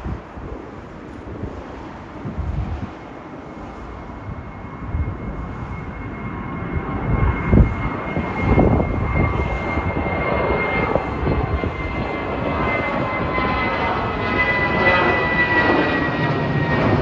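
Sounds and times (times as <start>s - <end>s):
jet engines whining: 0.3s - 17.0s.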